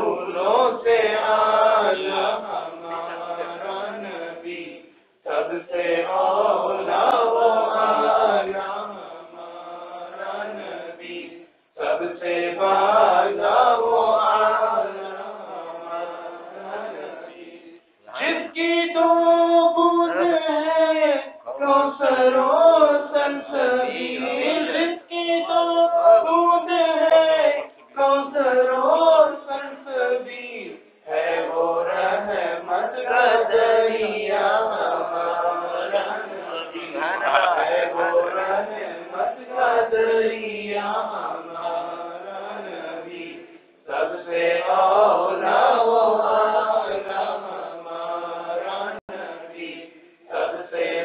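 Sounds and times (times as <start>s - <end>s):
men chanting in unison: 0.0s - 51.0s.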